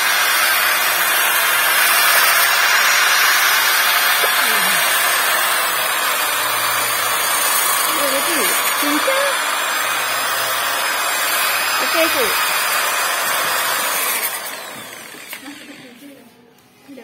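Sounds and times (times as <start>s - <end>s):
orbital sander on wood: 0.0s - 16.2s.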